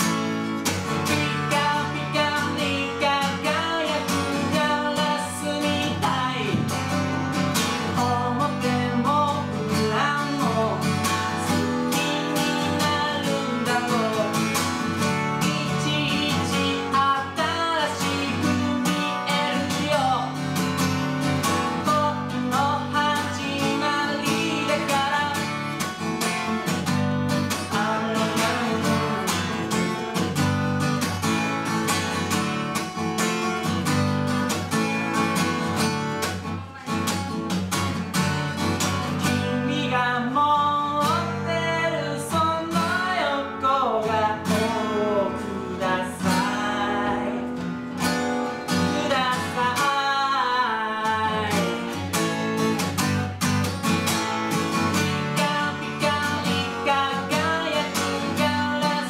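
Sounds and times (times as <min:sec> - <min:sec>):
acoustic guitar strummed: 0:00.0 - 0:59.0.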